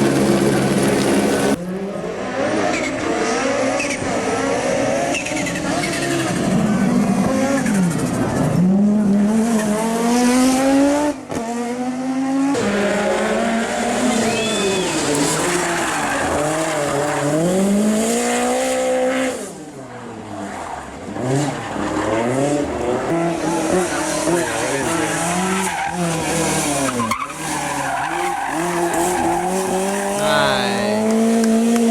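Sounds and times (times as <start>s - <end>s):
tyres skidding: 0.0s - 6.6s, 12.5s - 31.9s
rally car engine revving: 0.0s - 31.9s.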